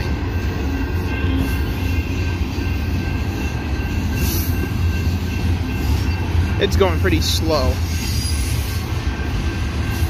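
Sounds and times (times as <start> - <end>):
freight train rolling rumble: 0.0 - 10.0.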